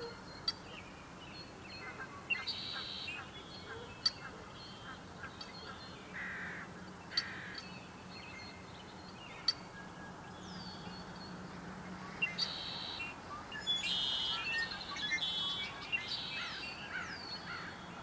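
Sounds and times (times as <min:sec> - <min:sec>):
loud low bird calls: 0:00.0 - 0:18.0
songbirds chirping and trilling: 0:00.0 - 0:18.0.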